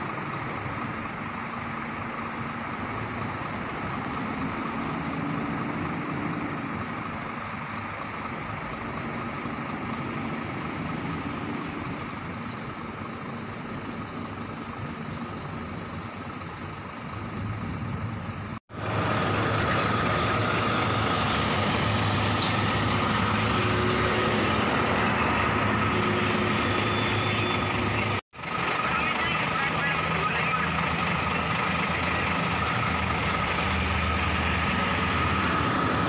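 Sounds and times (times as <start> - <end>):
distant truck engine: 0.0 - 36.0
truck driving past: 0.0 - 36.0.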